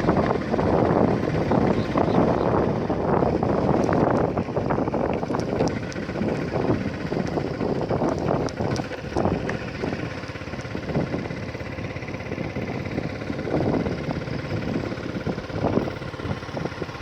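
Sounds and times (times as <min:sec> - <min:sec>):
vehicle on dirt road: 0:00.0 - 0:17.0
wind buffeting microphone: 0:00.0 - 0:17.0.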